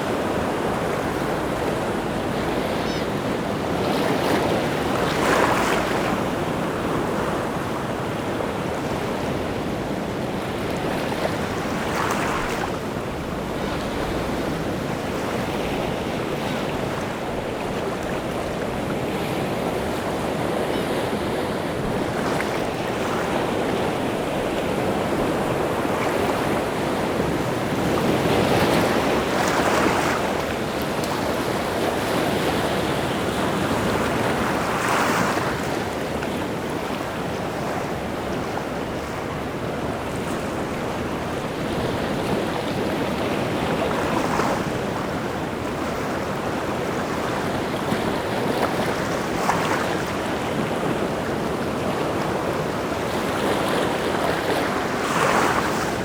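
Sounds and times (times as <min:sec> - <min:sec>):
waves breaking on shore: 0:00.0 - 0:56.0
wind: 0:00.0 - 0:56.0.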